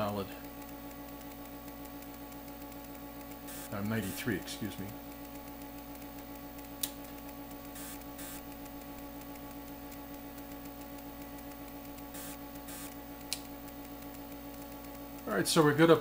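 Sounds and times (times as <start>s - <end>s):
instrument hum with tones: 0.0s - 16.0s
sharp clicks: 0.4s - 4.2s, 5.1s - 15.3s.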